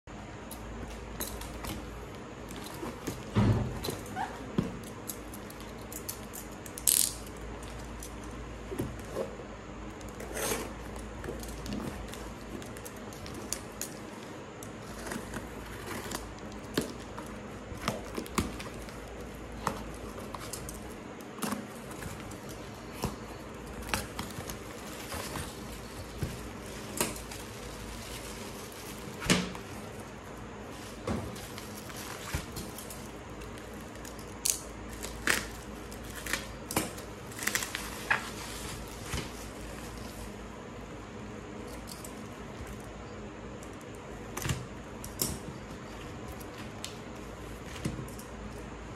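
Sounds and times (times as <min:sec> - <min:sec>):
cardboard and tape rustling: 0:00.6 - 0:40.6
bubble wrap handled: 0:00.8 - 0:40.6.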